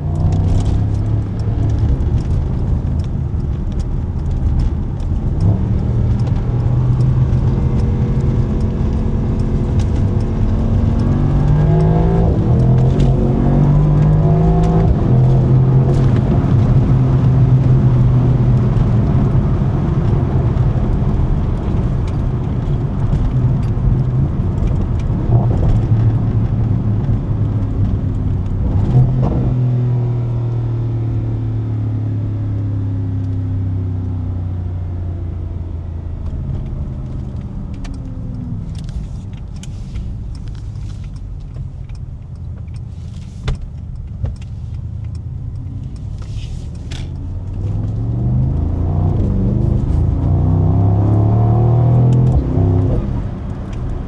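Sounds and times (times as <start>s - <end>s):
car engine and exhaust revving: 0.0s - 54.0s
exhaust crackles: 0.0s - 54.0s.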